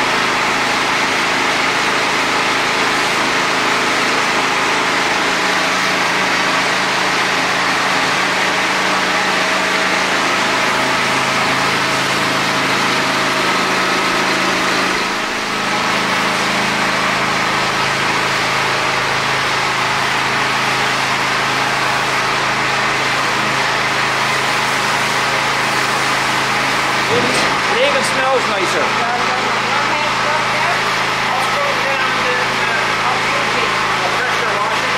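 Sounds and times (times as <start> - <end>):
petrol engine running: 0.0 - 31.4
water jet hissing on concrete: 0.0 - 34.9.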